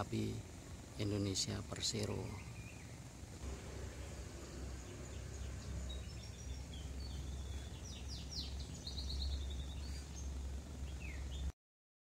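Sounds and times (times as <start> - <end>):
low steady rumble: 0.0 - 11.5
small birds chirping: 0.0 - 11.5.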